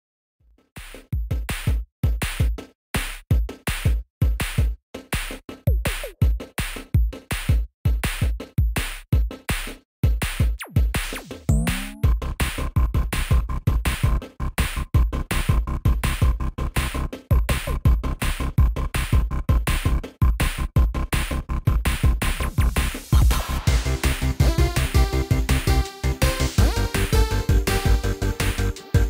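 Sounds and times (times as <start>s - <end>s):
electronic music with drum-machine beat: 0.8s - 29.0s.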